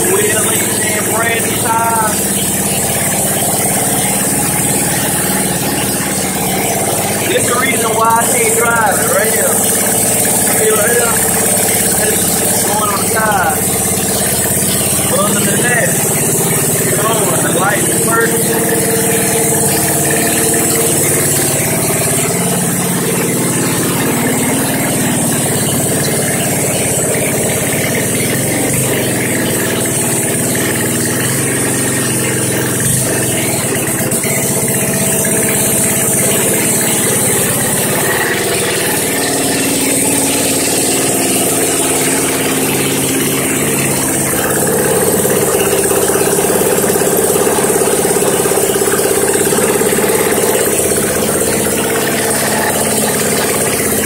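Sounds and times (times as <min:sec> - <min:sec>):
go-kart engine idling: 0:00.0 - 0:54.0.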